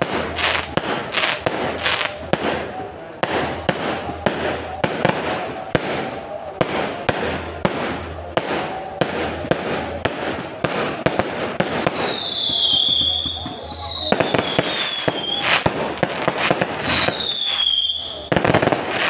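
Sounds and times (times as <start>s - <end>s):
crackle of sparks: 0.0s - 2.7s, 3.3s - 19.0s
fireworks bangs: 0.0s - 19.0s.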